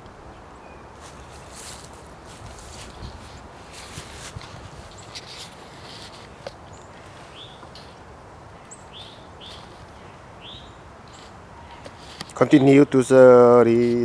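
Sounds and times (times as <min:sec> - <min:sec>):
steady outdoor hiss: 0:00.0 - 0:14.0
birds chirping: 0:00.3 - 0:14.0.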